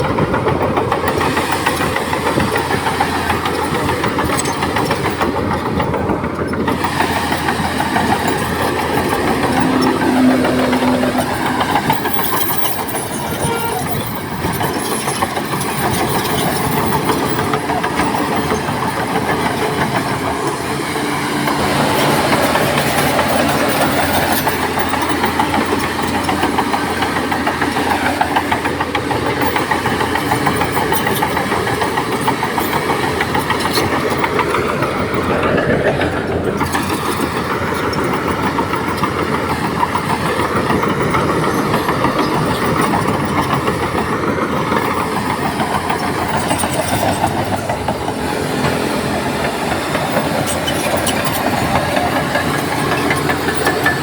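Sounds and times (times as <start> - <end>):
diesel engines running: 0.0 - 54.0
rattling clanking clatter: 0.0 - 54.0.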